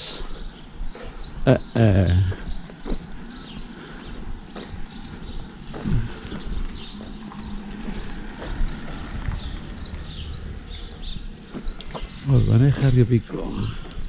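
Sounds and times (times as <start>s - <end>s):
small birds chirping: 0.0s - 14.0s
footsteps on pavement: 0.2s - 14.0s.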